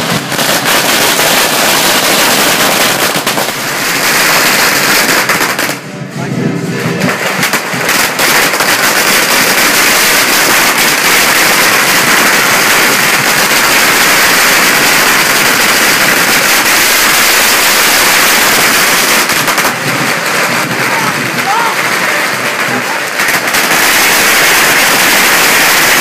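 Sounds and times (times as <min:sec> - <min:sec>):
firecrackers banging and crackling: 0:00.0 - 0:26.0.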